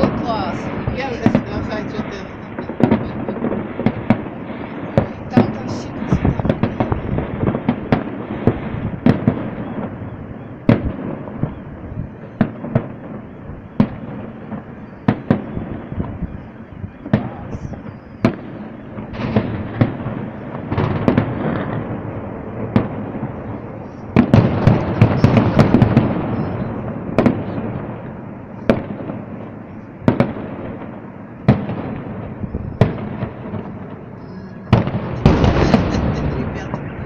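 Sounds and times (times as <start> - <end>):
fireworks bursting with sharp bangs: 0.0 - 37.0
fireworks crackling: 0.0 - 37.0.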